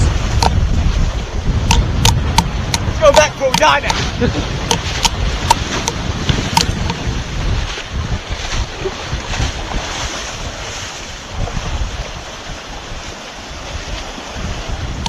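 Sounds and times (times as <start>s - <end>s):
waves crashing on shore: 0.0s - 15.0s
wind gusting against microphone: 0.0s - 15.0s.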